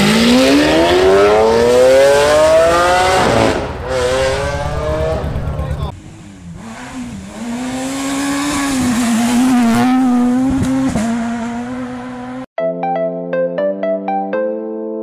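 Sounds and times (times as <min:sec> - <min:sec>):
car engine at high revs: 0:00.0 - 0:12.5.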